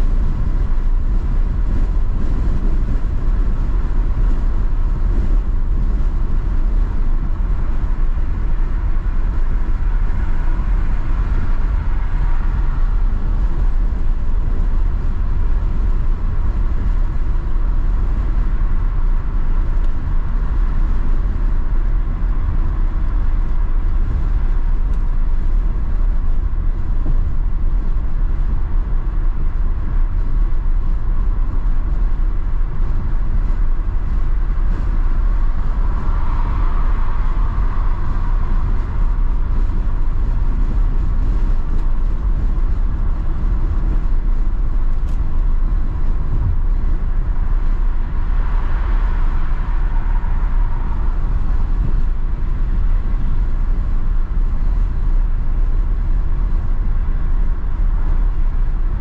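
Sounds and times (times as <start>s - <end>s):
car road noise from inside cabin: 0.0s - 59.0s.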